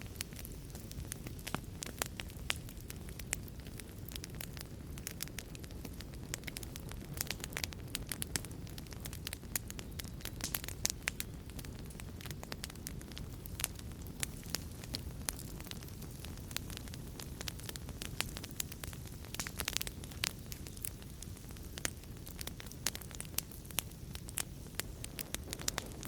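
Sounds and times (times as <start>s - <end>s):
fire crackling and popping: 0.0s - 26.0s
fire flames rumbling: 0.0s - 26.0s.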